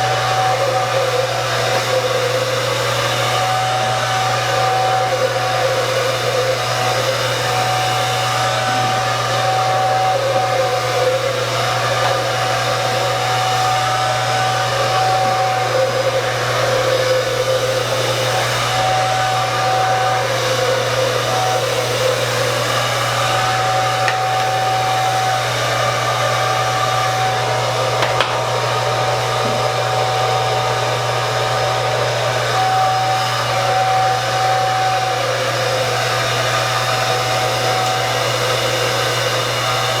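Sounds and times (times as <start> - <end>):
hair dryer running: 0.0 - 40.0.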